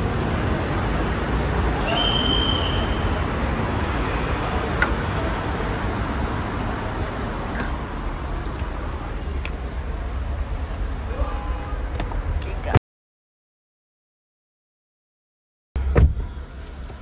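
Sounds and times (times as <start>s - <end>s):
low rumble of car park: 0.0s - 12.7s, 15.8s - 17.0s.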